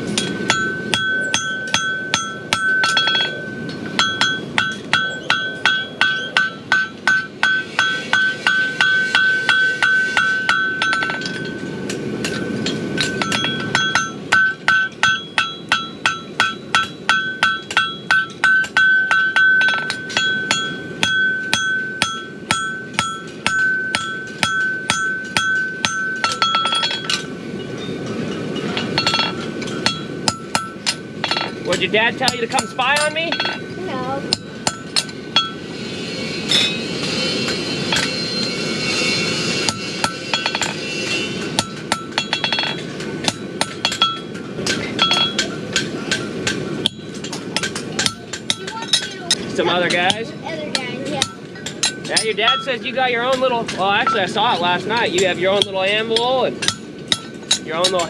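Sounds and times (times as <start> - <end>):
hammer ringing on anvil: 0.1 - 58.0.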